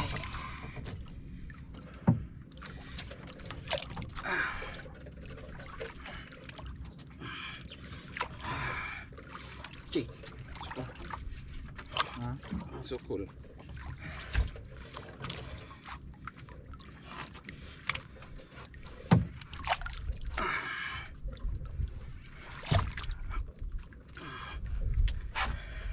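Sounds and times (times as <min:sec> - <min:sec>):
water sloshing against boat hull: 0:00.0 - 0:25.9.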